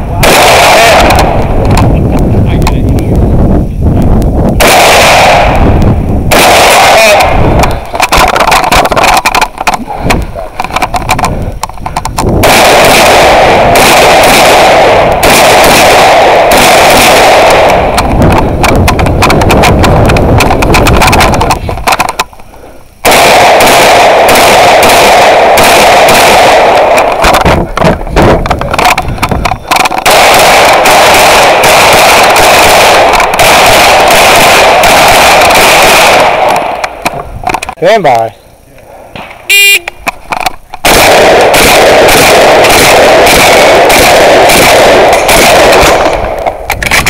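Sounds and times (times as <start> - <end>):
rapid gunfire: 0.0 - 3.0, 4.5 - 22.4, 23.0 - 37.8, 40.3 - 47.0.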